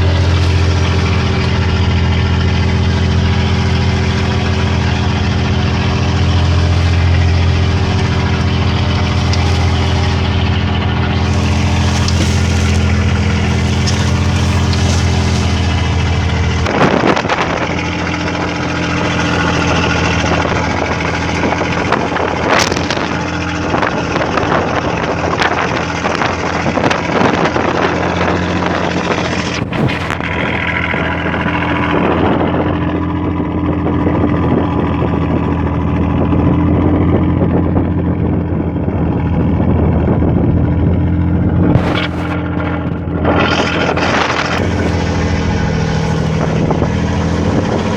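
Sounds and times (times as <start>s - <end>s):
boat engine running: 0.0s - 47.9s
sea: 0.0s - 47.9s
wind: 0.0s - 47.9s.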